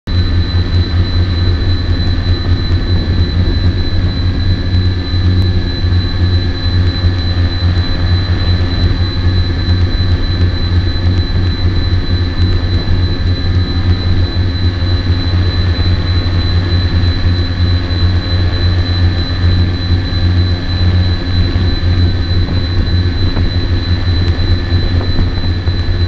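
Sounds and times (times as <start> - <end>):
drone motors humming: 0.1 - 26.0
thin high whine: 0.1 - 26.0.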